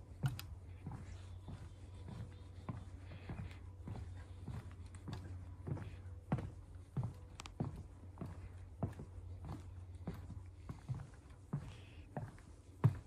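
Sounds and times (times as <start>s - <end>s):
footsteps walking: 0.0s - 13.0s.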